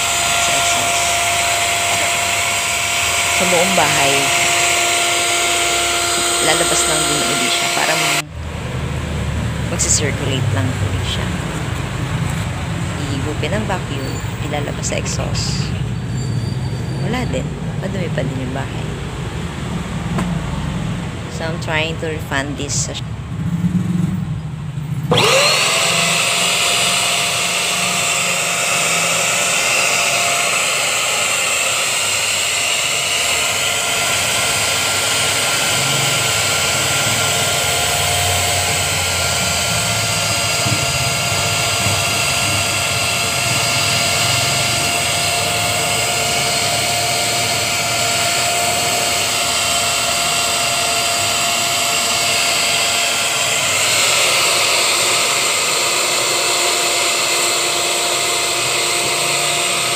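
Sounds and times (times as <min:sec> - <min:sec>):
vacuum cleaner motor whine: 0:00.0 - 0:08.4, 0:09.7 - 0:15.8, 0:25.1 - 0:59.9.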